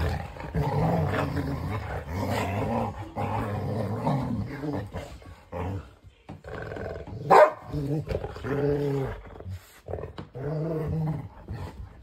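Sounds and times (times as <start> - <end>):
dogs growling: 0.0 - 12.0.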